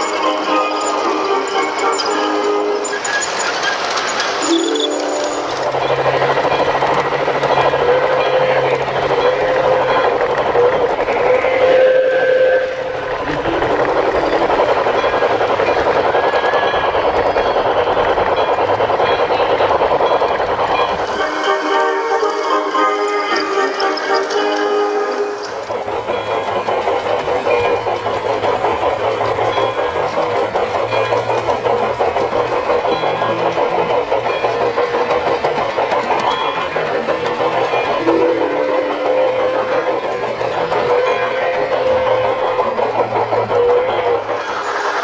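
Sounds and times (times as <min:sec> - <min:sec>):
model train wheels rattling: 0:00.0 - 0:11.8, 0:12.7 - 0:45.0.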